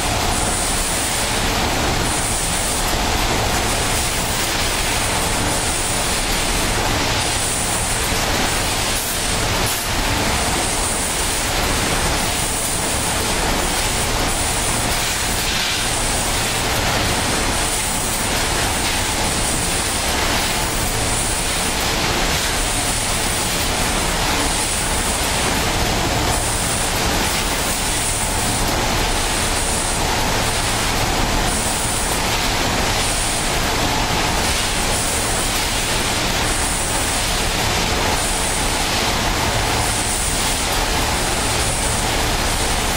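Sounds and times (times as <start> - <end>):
packaging machines mechanical din: 0.0 - 42.9.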